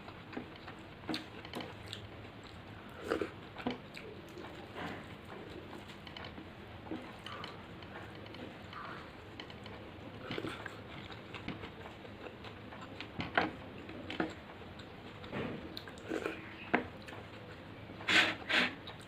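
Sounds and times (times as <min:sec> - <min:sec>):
person chewing food: 0:00.0 - 0:17.6, 0:18.8 - 0:19.0.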